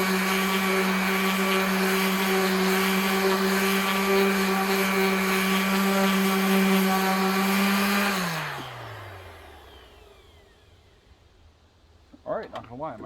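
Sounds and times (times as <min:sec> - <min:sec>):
sander motor humming: 0:00.0 - 0:11.0.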